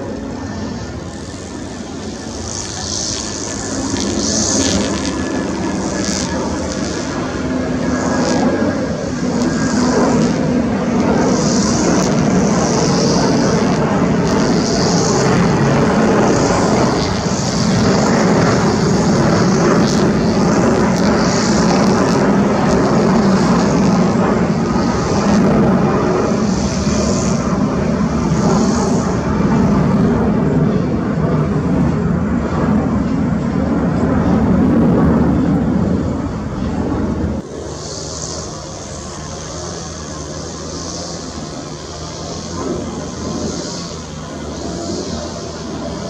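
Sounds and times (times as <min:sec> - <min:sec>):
jet engines at climb power: 0:00.0 - 0:46.0.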